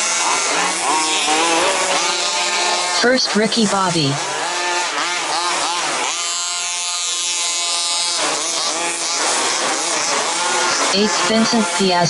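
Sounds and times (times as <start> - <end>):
model car engines revving: 0.0 - 12.0.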